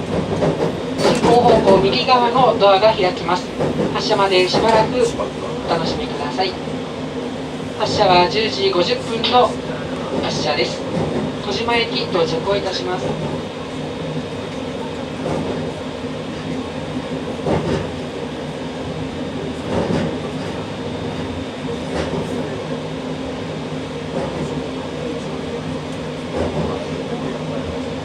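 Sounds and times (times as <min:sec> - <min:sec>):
electric train rolling and humming: 0:00.0 - 0:28.0.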